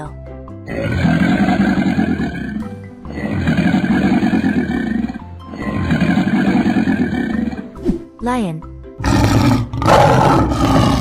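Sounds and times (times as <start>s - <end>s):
children's background music: 0.0s - 11.0s
crocodile growls: 0.7s - 7.7s, 9.0s - 11.0s.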